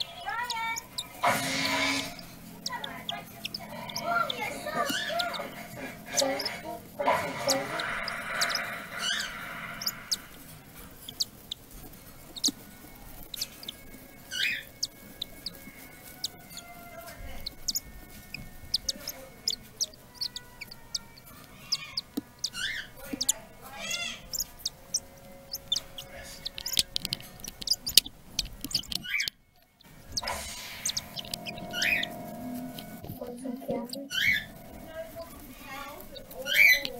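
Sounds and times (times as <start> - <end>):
chicks cheeping: 0.0 - 36.9
faint steady background noise: 0.0 - 36.9.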